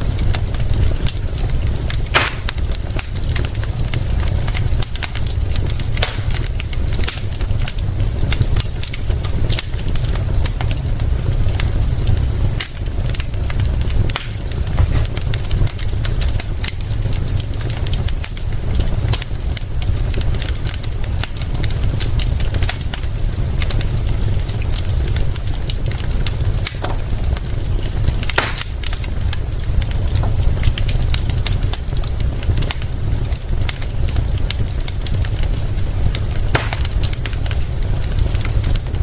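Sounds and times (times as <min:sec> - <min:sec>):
rain hissing: 0:00.0 - 0:09.5, 0:10.2 - 0:39.0
continuous low rumble: 0:00.0 - 0:39.0
wood fire crackling: 0:00.0 - 0:39.0.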